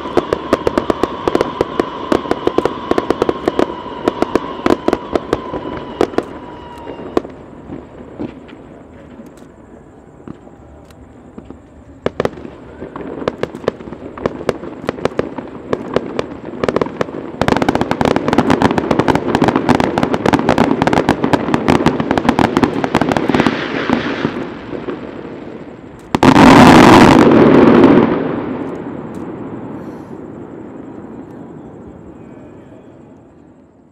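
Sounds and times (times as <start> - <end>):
fireworks bangs and crackles: 0.0 - 33.9
fireworks rumble: 0.0 - 33.9.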